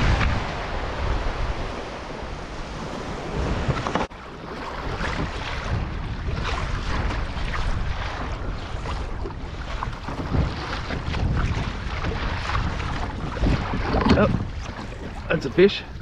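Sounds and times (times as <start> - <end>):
water slapping kayak hull: 0.0 - 16.0
waves washing: 0.0 - 16.0
wind on microphone: 0.0 - 16.0.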